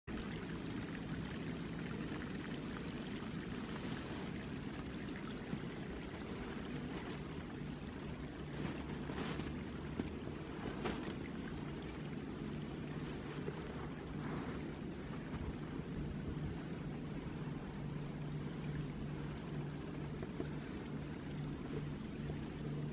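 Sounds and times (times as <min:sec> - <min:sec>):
stream water trickling: 0:00.0 - 0:22.9.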